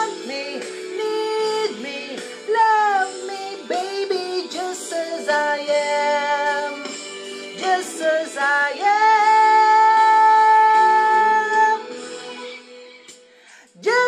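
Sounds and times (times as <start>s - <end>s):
woman singing a slow ballad: 0.0s - 12.0s, 13.7s - 14.0s
karaoke backing track: 0.0s - 14.0s.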